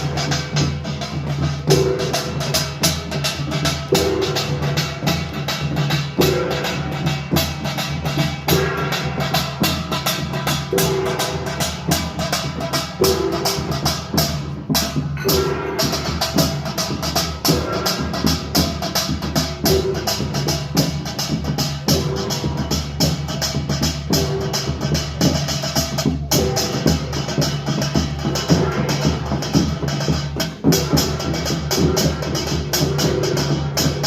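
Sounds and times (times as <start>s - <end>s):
percussion ensemble fast rhythm: 0.0s - 34.0s.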